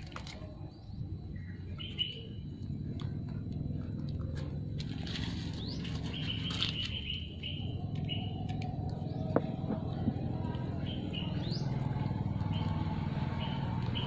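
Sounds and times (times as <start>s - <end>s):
small birds chirping: 0.1s - 14.0s
steady low rumble: 0.4s - 13.0s.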